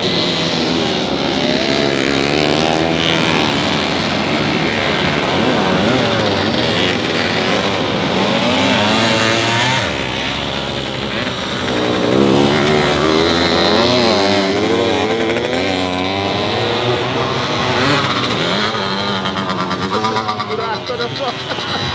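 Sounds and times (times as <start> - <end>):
motorcycle engines revving past: 0.0 - 21.9.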